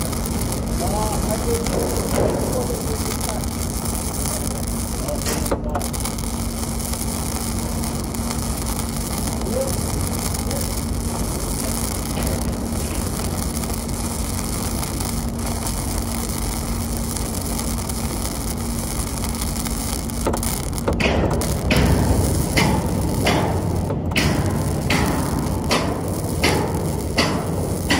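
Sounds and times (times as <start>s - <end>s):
steady low hum: 0.0s - 27.9s
welding arc crackling: 0.0s - 27.9s.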